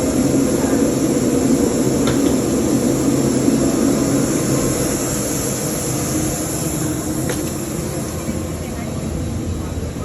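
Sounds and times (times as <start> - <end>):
airliner machinery hum: 0.0 - 10.0
high whine: 0.0 - 10.0.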